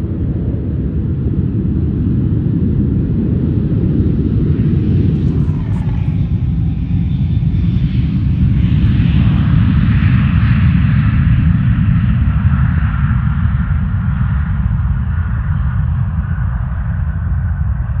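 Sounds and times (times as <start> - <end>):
airplane engines rumbling: 0.0 - 18.0
faint engine whine: 0.0 - 18.0.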